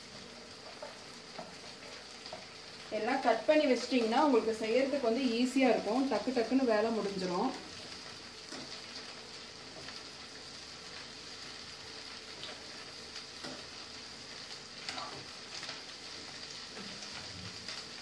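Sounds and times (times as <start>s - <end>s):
vegetables sizzling in oil: 0.0s - 18.0s.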